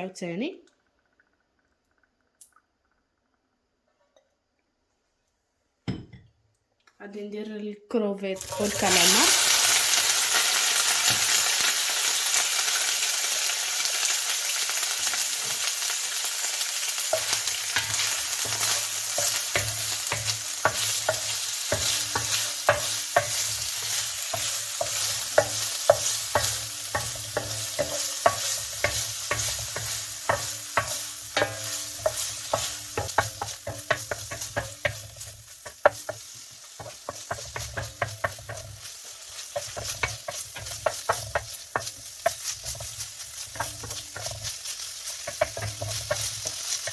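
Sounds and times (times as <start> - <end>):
seafood sizzling in hot oil: 8.4 - 46.9
utensil stirring and tapping pan: 8.4 - 46.9.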